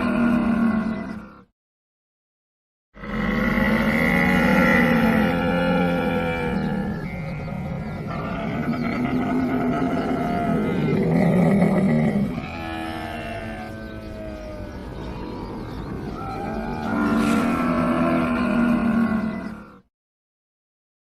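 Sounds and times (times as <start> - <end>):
camel bellowing: 3.0 - 19.8.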